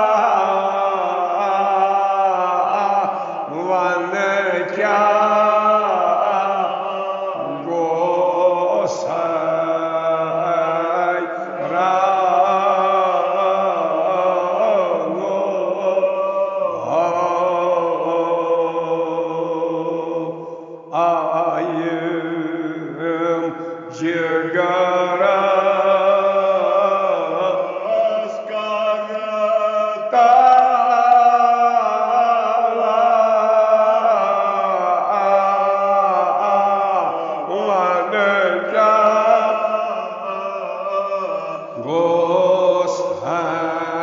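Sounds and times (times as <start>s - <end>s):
elderly man chanting: 0.0s - 44.0s.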